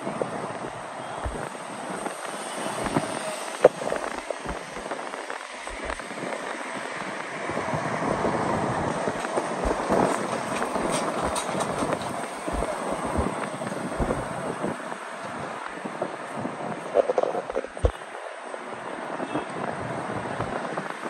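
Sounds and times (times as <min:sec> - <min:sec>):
passing vehicles: 0:00.0 - 0:21.0
tyres hissing on wet road: 0:00.0 - 0:21.0
wind buffeting microphone: 0:00.0 - 0:21.0.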